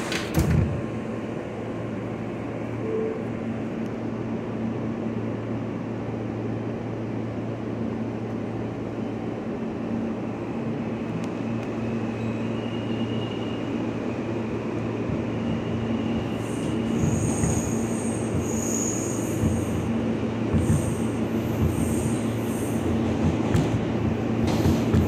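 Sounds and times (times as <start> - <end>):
subway doors closing: 0.0 - 25.0
train car rumble: 0.0 - 25.0
train motors humming: 0.0 - 25.0.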